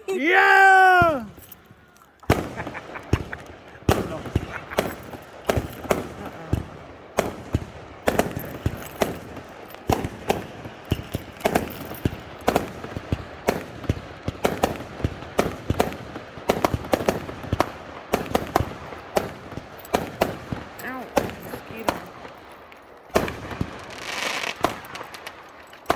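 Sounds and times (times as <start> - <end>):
fireworks bangs and crackles: 0.9 - 25.9.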